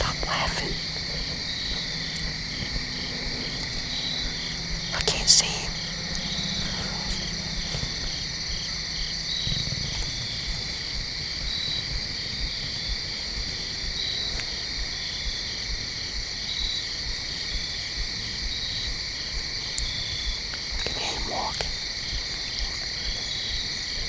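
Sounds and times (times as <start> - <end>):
crickets and insects trilling: 0.0 - 24.0.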